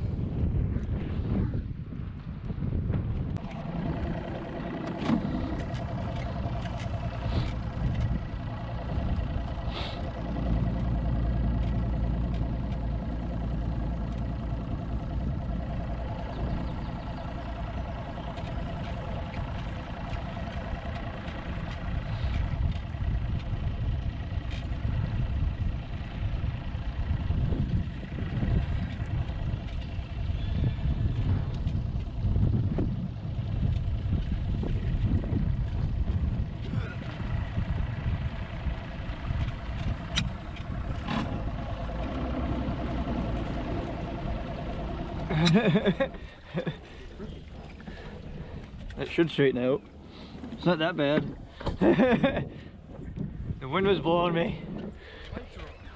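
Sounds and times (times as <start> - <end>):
boat motor running: 0.0 - 55.9
low wind rumble: 0.0 - 55.9
engine idling: 3.1 - 55.9.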